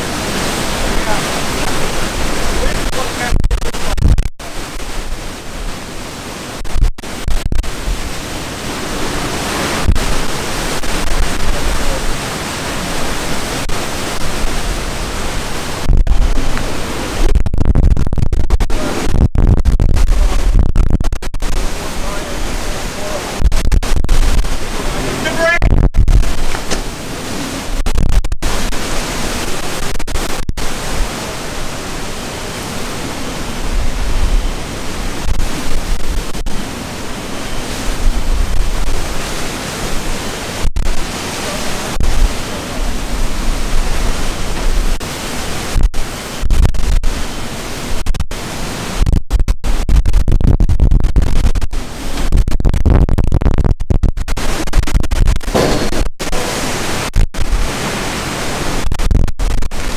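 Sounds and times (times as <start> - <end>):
low wind buffeting: 0.0 - 49.1
rain hitting microphone: 0.0 - 53.4, 54.1 - 59.9
strong wind rushing: 0.0 - 59.9.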